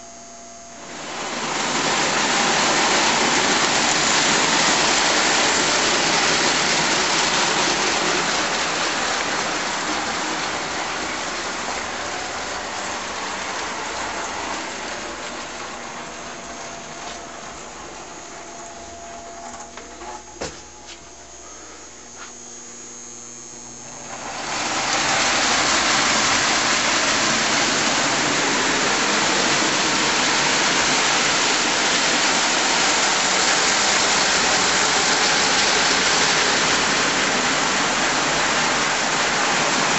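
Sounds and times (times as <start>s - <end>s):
toy train rattling on track: 0.9s - 17.9s, 24.1s - 39.9s.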